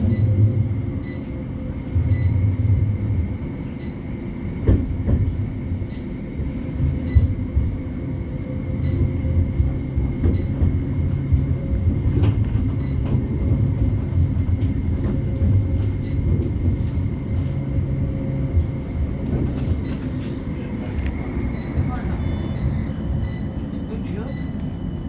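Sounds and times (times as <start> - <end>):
tram wheels rumbling: 0.0 - 25.0.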